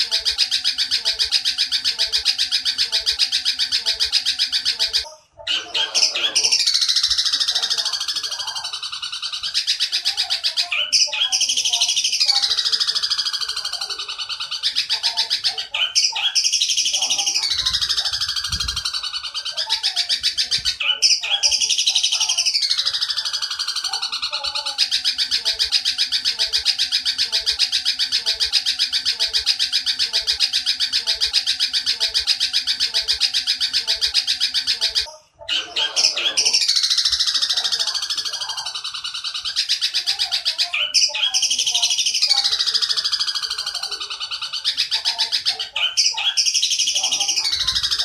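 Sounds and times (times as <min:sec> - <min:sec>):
shrill rasping bird calls: 0:00.0 - 0:48.0
sparrow rapid chatter: 0:00.0 - 0:48.0.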